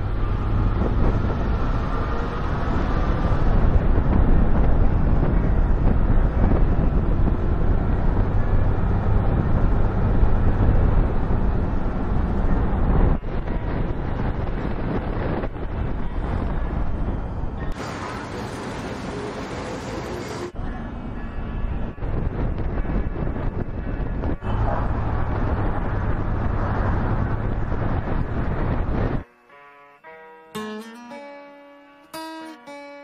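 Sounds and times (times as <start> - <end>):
wind buffeting microphone: 0.0 - 29.2
car road and engine noise: 0.0 - 29.3.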